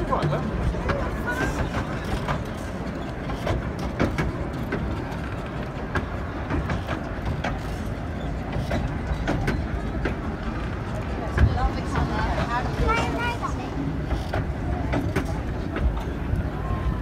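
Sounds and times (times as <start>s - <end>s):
railway coaches rumbling: 0.0s - 17.0s
wheels clicking and clunking: 0.0s - 17.0s.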